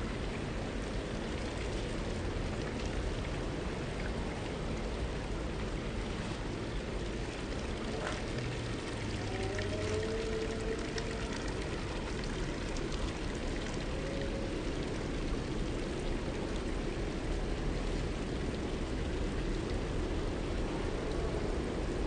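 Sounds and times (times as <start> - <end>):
fountain water splashing: 0.0 - 22.0.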